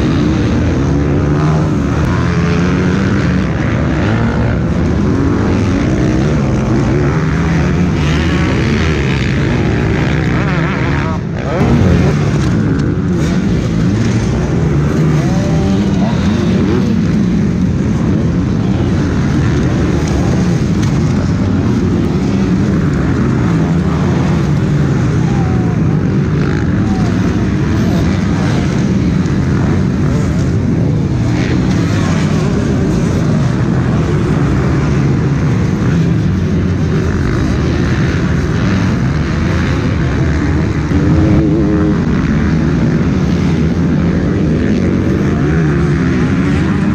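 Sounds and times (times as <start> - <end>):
motocross bikes racing: 0.0 - 46.9.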